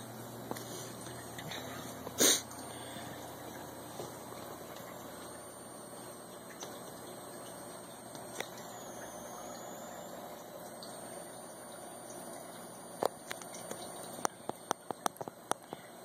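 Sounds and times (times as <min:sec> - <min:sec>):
aquarium air stone bubbling: 0:00.0 - 0:16.0.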